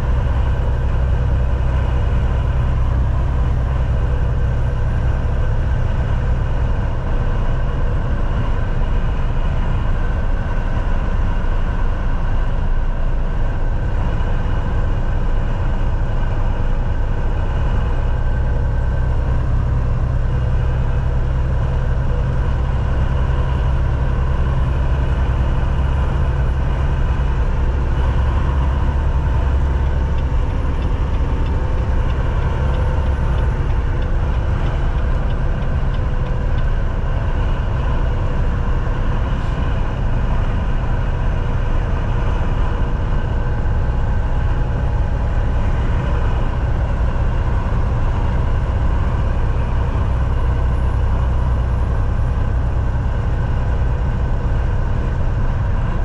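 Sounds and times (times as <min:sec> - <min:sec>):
diesel truck engine drone: 0:00.0 - 0:56.0
road noise: 0:00.0 - 0:56.0.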